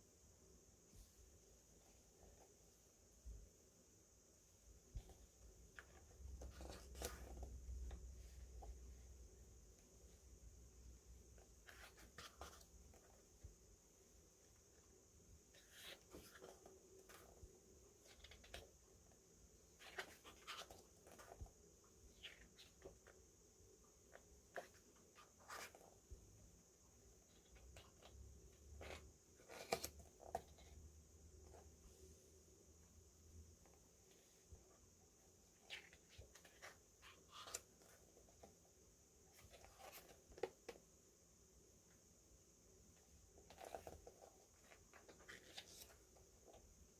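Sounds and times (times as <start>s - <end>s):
faint steady hiss: 0.0s - 46.9s.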